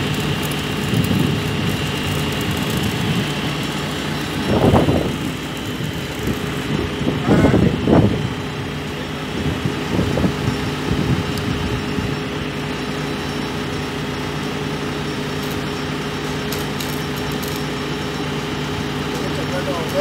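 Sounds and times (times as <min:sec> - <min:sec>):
crane engine idling: 0:00.0 - 0:20.0.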